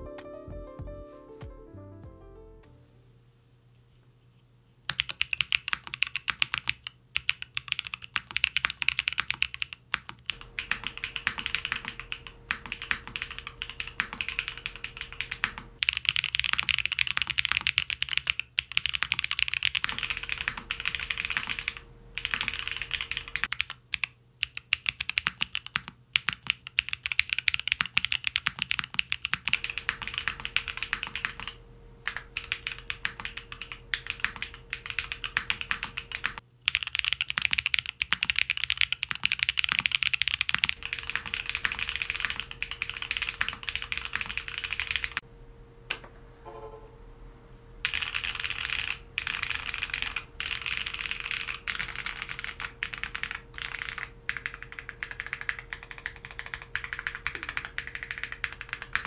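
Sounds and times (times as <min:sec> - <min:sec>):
mechanical keyboard typing: 0:04.9 - 0:45.2, 0:47.8 - 0:59.0.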